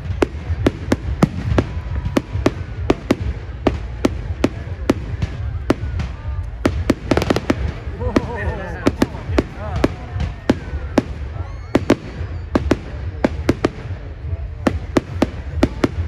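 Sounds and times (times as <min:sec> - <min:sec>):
fireworks bangs: 0:00.0 - 0:16.0
fireworks crackles: 0:00.0 - 0:16.0.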